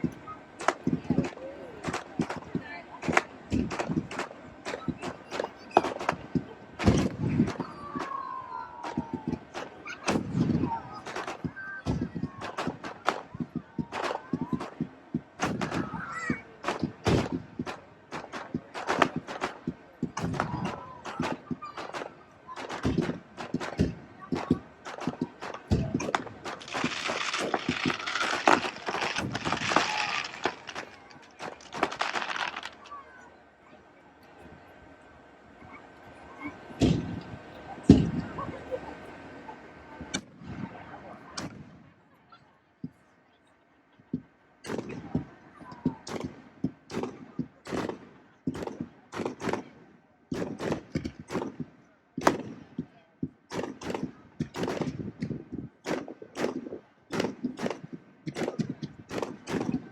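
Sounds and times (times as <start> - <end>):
crackling fireworks pops: 0.0 - 33.2, 36.7 - 38.8, 40.0 - 41.9, 44.1 - 59.9.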